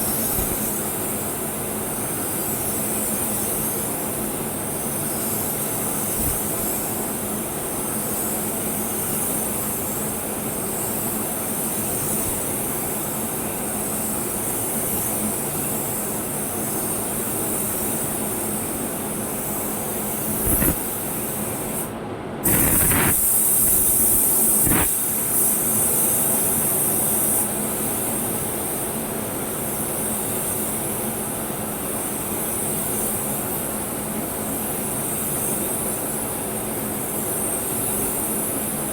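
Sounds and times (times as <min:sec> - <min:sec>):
paint spray gun hissing: 0:00.0 - 0:03.9, 0:04.6 - 0:36.4.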